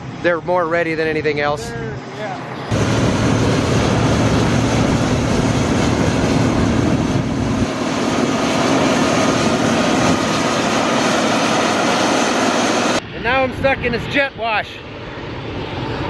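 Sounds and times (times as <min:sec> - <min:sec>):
combine harvester drone: 0:00.0 - 0:16.0.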